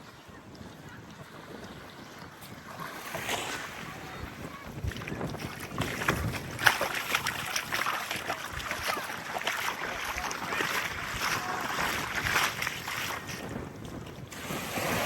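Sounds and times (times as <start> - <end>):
wave splash: 0.0 - 15.0
wind on microphone: 0.0 - 15.0
waves washing on sand: 0.6 - 15.0.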